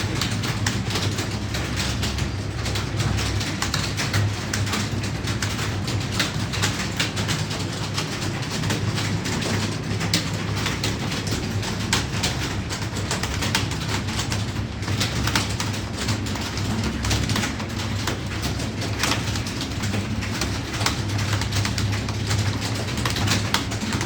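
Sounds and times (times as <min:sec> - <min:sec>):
keyboards clattering: 0:00.0 - 0:24.0.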